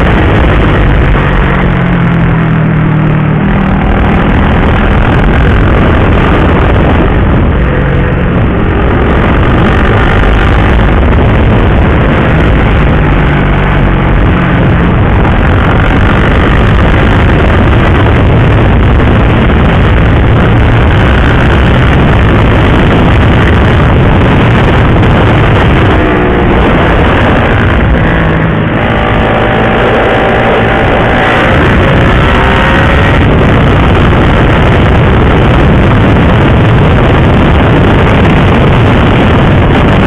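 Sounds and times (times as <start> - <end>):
motorcycle engine running: 0.0 - 40.0
wind rush over microphone: 0.0 - 40.0.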